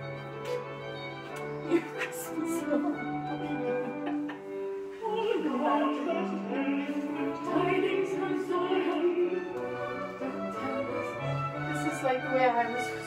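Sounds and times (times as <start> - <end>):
orchestra playing: 0.0 - 13.0
operatic singing: 1.7 - 12.8.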